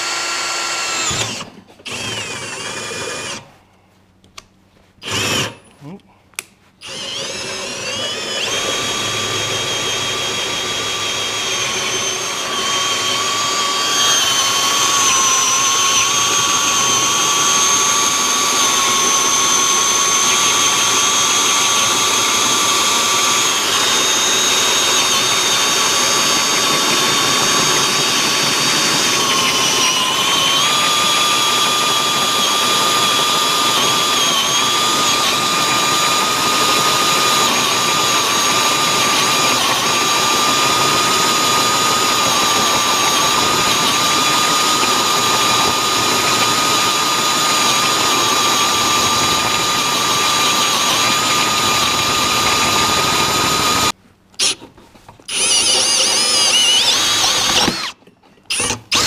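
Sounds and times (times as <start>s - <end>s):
drill motor high whine: 0.0s - 3.5s, 5.0s - 5.6s, 6.8s - 54.6s, 55.3s - 59.0s.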